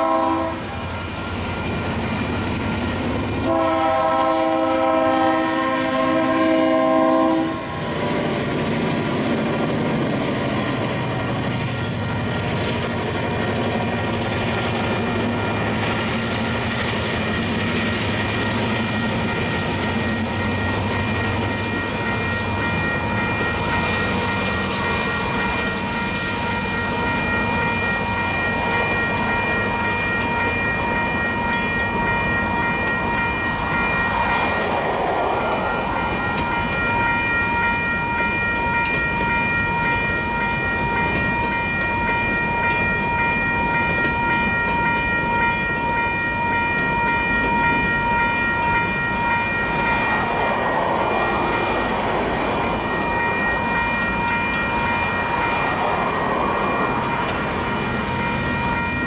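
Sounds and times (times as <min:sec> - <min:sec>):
crossing bell ringing: 0:00.0 - 0:59.0.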